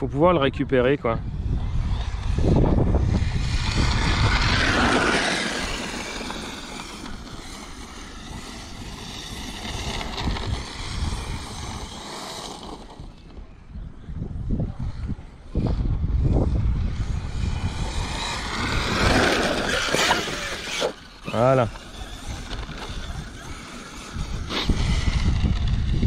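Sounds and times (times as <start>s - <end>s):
electric motor whining: 1.4s - 13.9s, 15.1s - 26.0s.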